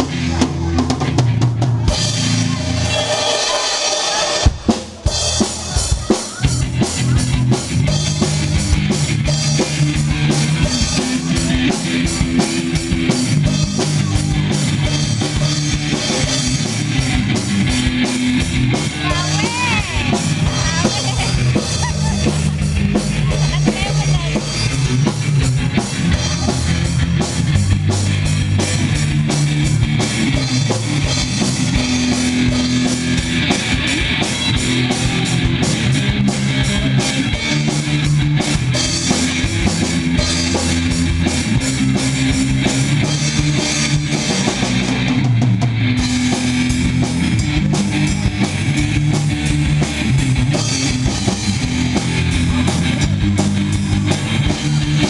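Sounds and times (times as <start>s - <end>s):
bass line: 0.0s - 55.0s
drum kit: 0.0s - 55.0s
guitar: 0.0s - 55.0s.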